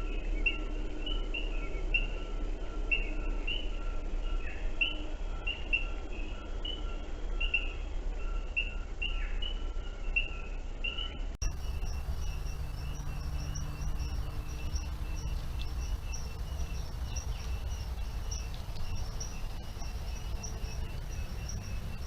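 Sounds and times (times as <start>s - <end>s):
lower evenly spaced bird notes: 0.0s - 22.0s
steady low hum: 0.0s - 22.0s
birds chirping: 3.5s - 22.0s.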